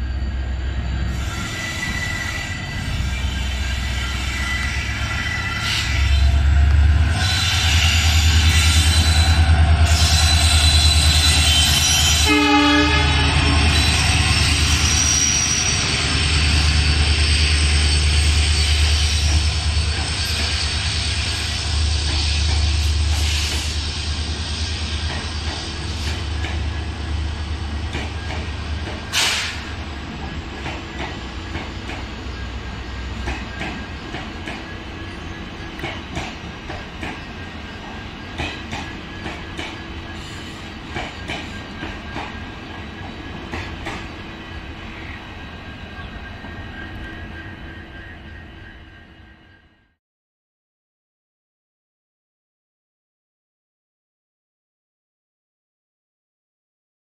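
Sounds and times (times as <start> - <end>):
train coaches rumbling past: 0.0 - 49.9.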